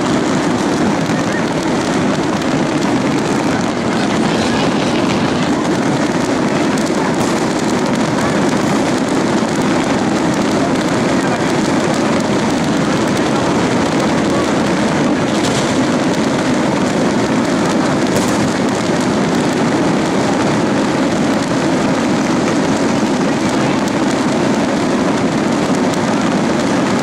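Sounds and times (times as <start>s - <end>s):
fireworks hissing and crackling: 0.0s - 27.0s.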